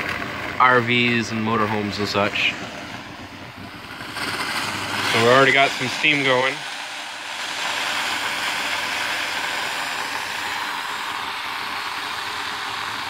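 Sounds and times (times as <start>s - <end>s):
steady low rumble: 0.0s - 13.0s
steam hissing from boiler: 0.0s - 13.0s.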